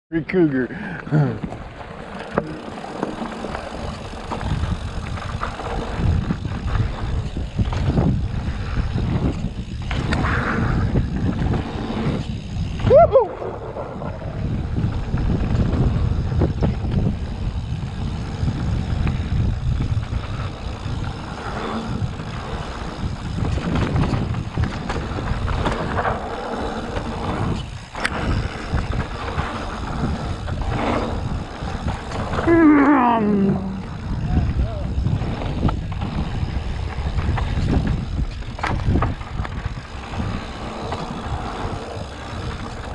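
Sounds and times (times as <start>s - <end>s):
bike rattling: 0.3s - 42.9s
bike tyres rumbling over dirt: 0.8s - 42.9s
wind buffeting microphone: 1.4s - 42.9s.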